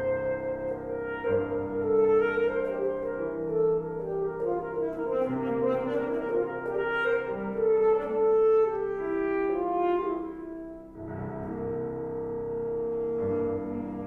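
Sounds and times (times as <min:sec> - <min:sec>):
alto saxophone melody: 0:00.0 - 0:11.9, 0:12.5 - 0:14.0.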